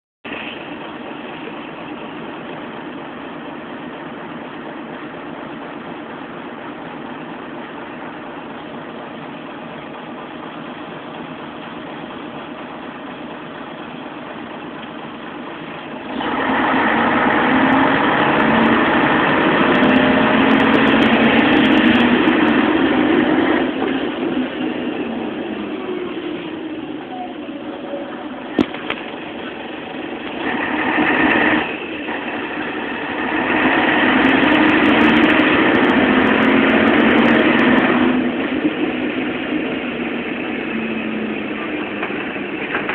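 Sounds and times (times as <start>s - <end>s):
bus diesel engine: 0.2s - 42.9s.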